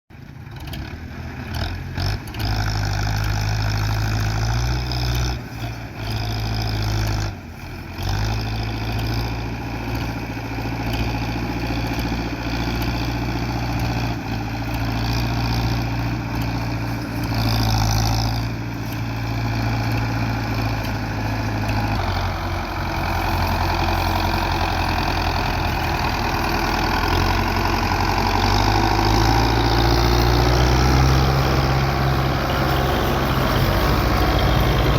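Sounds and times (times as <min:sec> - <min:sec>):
tractor diesel engine running hard: 0:00.1 - 0:34.9.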